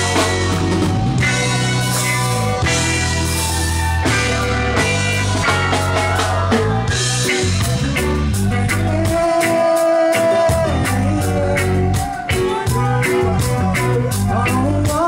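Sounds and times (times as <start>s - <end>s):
reggae band playing: 0.0s - 15.0s.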